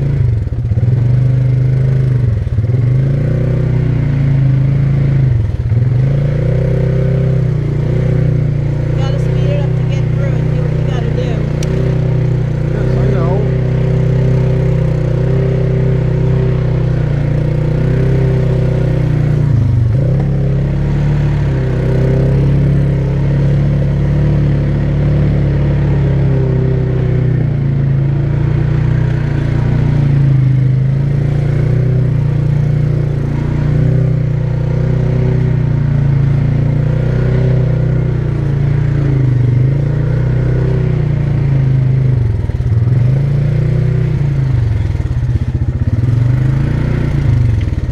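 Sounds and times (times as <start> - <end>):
atv engine running: 0.0 - 47.9.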